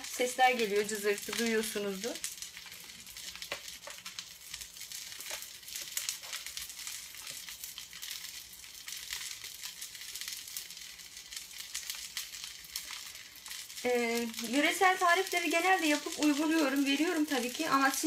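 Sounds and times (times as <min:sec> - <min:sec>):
pastry frying sizzle: 0:00.0 - 0:18.0.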